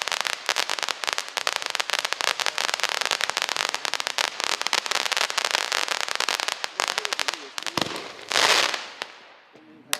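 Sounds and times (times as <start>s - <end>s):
firework fountain crackling: 0.0s - 9.9s.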